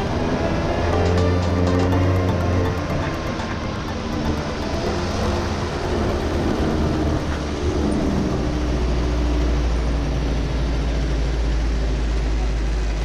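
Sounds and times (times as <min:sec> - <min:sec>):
go-kart engines rumbling: 0:00.0 - 0:13.0.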